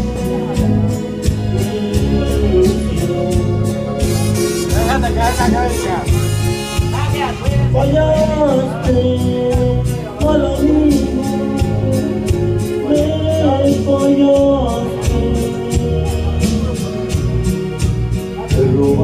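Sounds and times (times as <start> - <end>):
amplified backing music: 0.0 - 19.0
man singing into a microphone: 0.0 - 19.0.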